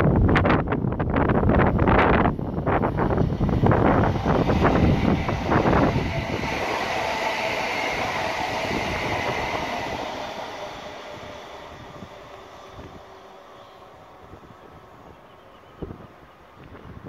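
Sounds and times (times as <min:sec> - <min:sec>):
train passing at speed: 0:00.0 - 0:17.0
wind buffeting microphone: 0:00.0 - 0:17.0.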